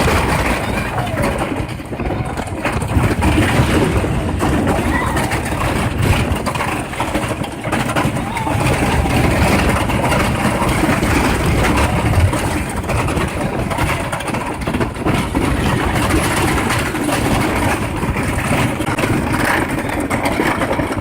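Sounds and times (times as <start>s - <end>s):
roller coaster train rumbling: 0.0s - 21.0s.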